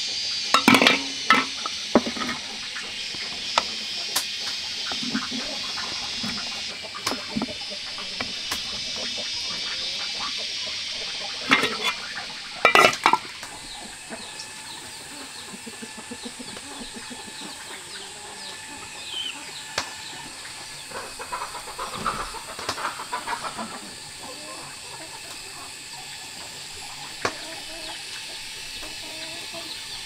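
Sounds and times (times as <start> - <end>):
loud chicken calls: 0.0 - 25.8
chickens clucking: 0.0 - 30.0.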